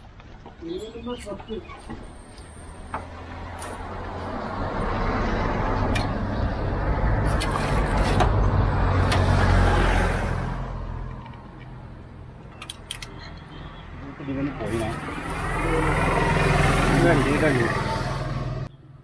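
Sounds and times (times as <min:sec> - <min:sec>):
vehicle passing: 0:01.9 - 0:12.1, 0:13.2 - 0:18.7.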